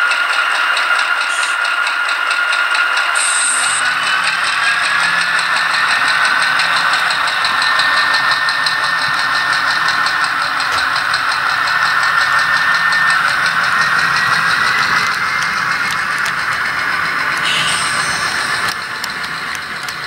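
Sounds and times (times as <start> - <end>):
model diesel engine sound: 0.0 - 20.0
high whine: 1.1 - 1.7, 3.0 - 20.0.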